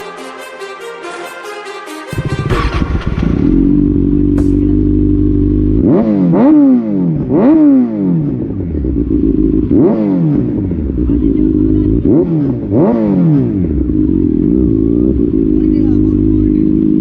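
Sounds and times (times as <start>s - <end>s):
motorcycle engine idling and revving: 2.1s - 17.0s.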